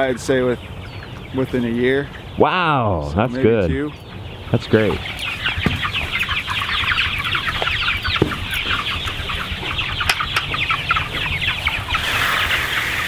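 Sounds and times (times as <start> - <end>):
chicks cheeping: 0.0 - 13.0.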